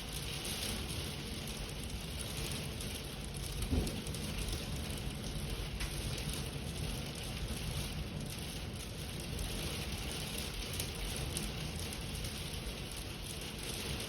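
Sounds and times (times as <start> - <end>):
heavy rain falling: 0.0 - 14.0
wind: 0.0 - 14.0.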